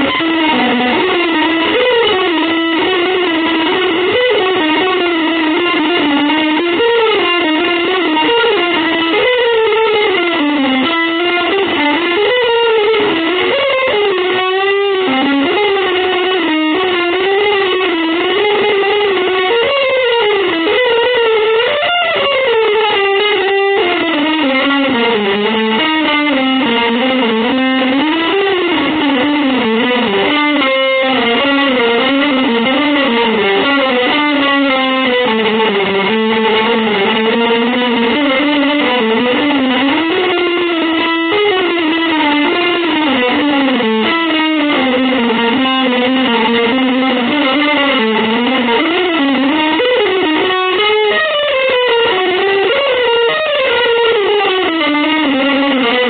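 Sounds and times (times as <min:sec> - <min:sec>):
electric guitar melody: 0:00.0 - 0:56.0.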